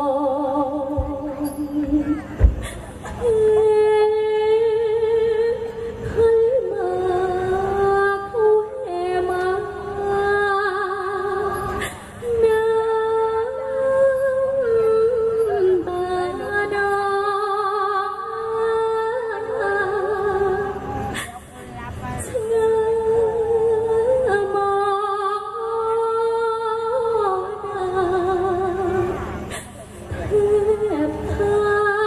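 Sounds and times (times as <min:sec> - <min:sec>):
woman singing into a microphone: 0:00.0 - 0:32.0.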